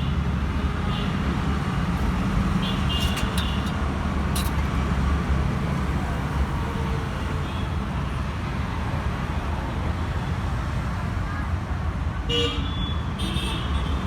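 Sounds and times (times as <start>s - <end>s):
road traffic rumble: 0.0s - 12.5s.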